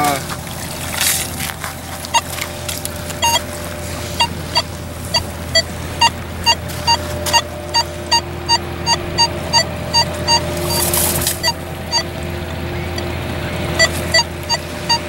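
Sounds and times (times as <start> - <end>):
metal detector beeping: 2.1 - 15.0.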